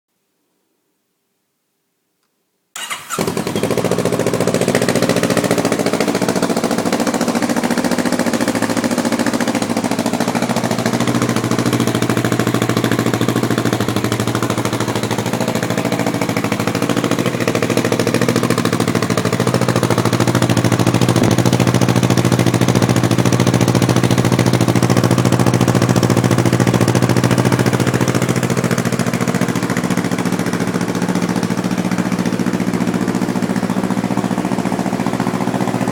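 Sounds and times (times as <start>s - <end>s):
motorcycle engine idling: 2.8s - 35.9s
motorcycle engine starting: 2.8s - 35.9s.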